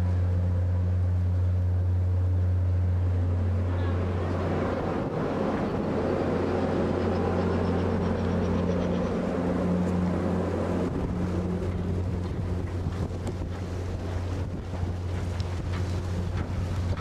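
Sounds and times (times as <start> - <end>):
ferry engines droning: 0.0 - 17.0
sea noise: 0.0 - 17.0
wind: 0.0 - 17.0.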